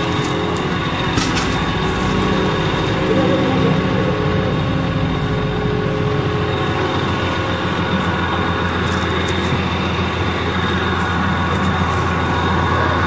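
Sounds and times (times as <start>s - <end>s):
large engine running: 0.0s - 13.0s.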